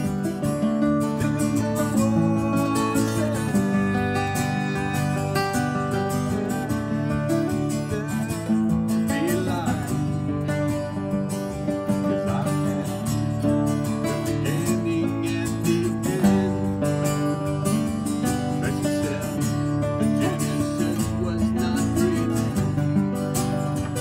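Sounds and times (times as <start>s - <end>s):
acoustic guitars playing country: 0.0s - 24.0s
man singing: 0.0s - 24.0s.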